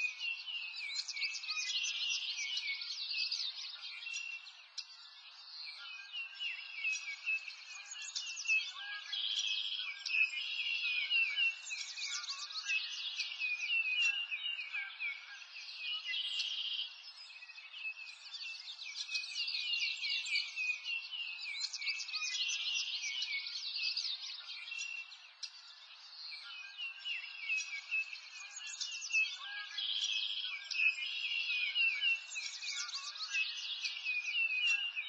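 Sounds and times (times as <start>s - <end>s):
songbirds chirping and trilling: 0.0s - 35.0s.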